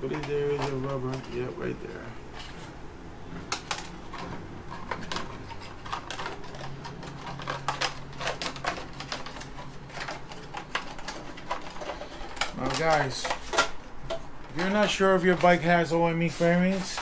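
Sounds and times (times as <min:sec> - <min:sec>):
plastic panels clicking and tapping: 0:00.0 - 0:01.5, 0:03.4 - 0:15.6
steady low hum: 0:00.0 - 0:17.0.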